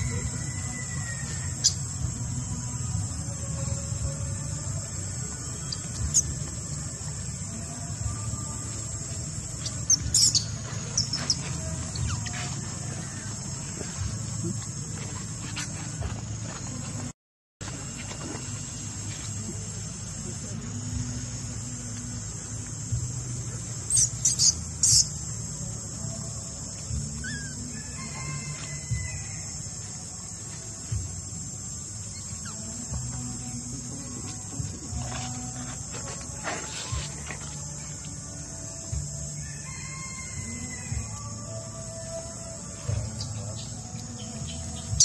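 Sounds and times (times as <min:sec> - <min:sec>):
insect drone: 0:00.0 - 0:45.0.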